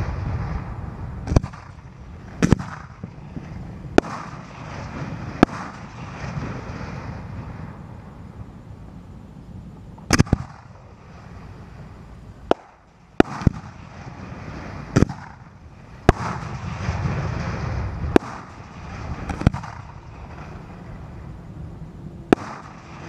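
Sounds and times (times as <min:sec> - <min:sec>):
fireworks bangs: 0:00.0 - 0:08.2, 0:09.9 - 0:11.8, 0:12.4 - 0:21.3, 0:22.3 - 0:23.0
low rumbling background: 0:00.0 - 0:23.0.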